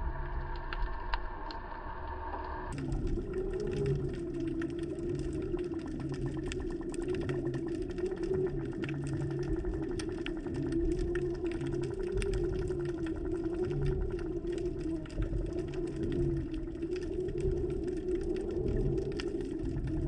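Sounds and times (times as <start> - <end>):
underwater motor hum with ticking: 0.0 - 20.0.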